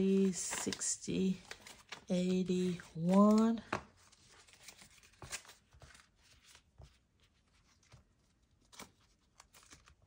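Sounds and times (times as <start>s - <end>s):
paper bills rustling: 0.0s - 10.0s.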